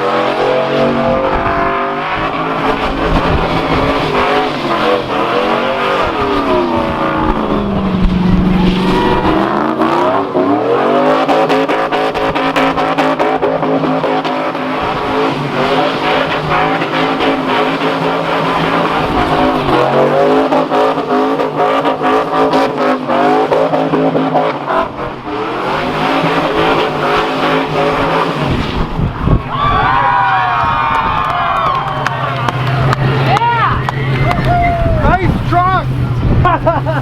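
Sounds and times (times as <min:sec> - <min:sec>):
car engine revving high: 0:00.0 - 0:37.0
tires squealing on pavement: 0:00.0 - 0:37.0.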